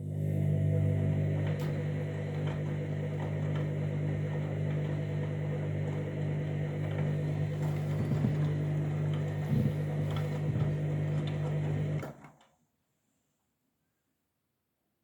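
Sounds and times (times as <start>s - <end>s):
washing machine motor hum: 0.0s - 12.3s.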